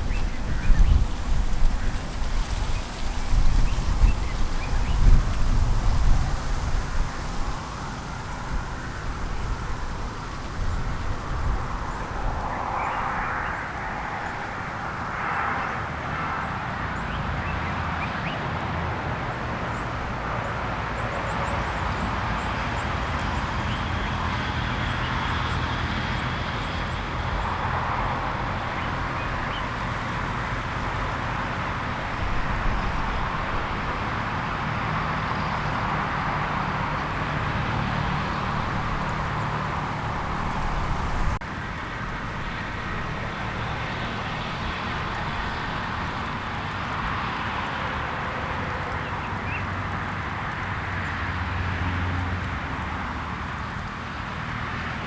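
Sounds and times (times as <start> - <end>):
outdoor background rumble: 0.0 - 55.0.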